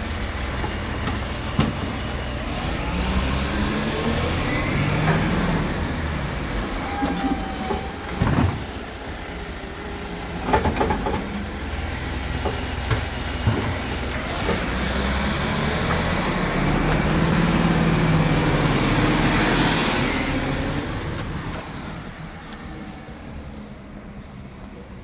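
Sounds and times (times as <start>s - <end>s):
collection truck engine whining: 0.0s - 25.0s.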